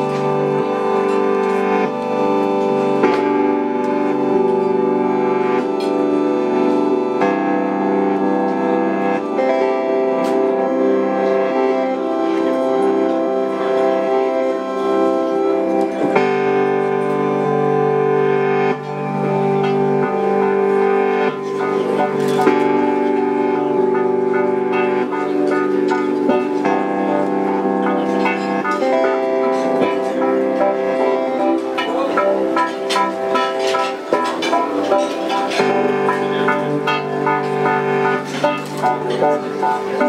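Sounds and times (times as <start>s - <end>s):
keyboard chords: 0.0s - 40.0s.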